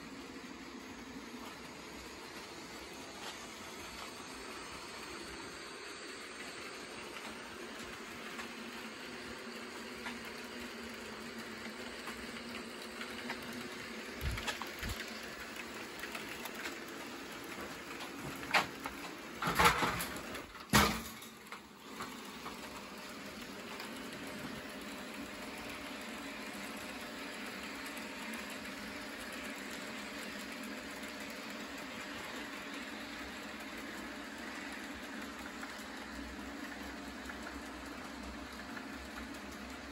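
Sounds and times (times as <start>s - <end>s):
model train motors whirring: 0.0s - 39.9s.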